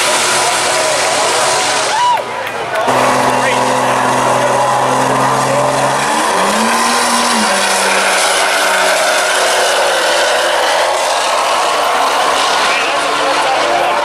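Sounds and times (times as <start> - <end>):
pickup truck engines accelerating: 0.0 - 14.0.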